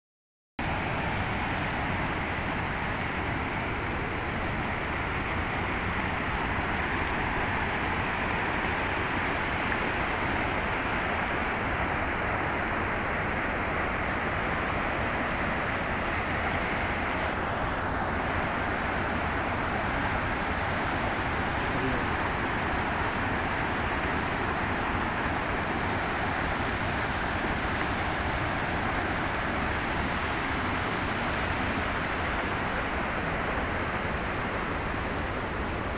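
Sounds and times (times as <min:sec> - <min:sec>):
mountain stream rushing: 0:00.6 - 0:35.9.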